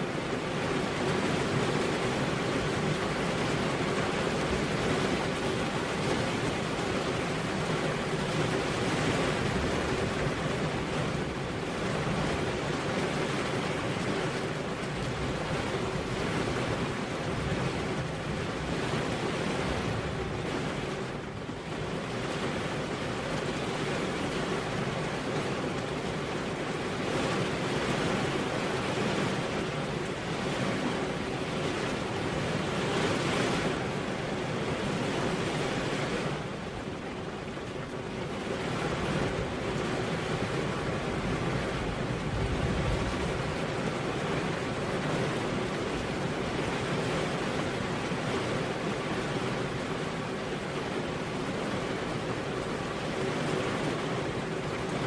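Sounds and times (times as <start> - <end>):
heavy rain pouring onto road: 0.0 - 55.0.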